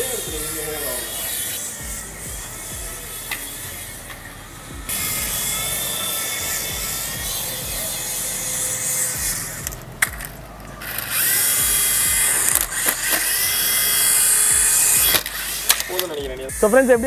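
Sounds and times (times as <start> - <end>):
toy helicopter whirring: 0.0 - 17.0.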